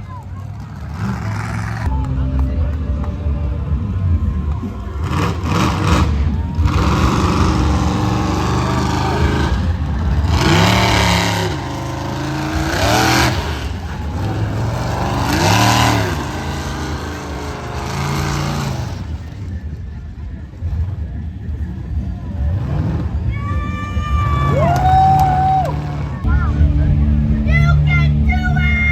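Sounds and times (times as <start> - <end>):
monster truck engines revving: 0.0 - 28.9.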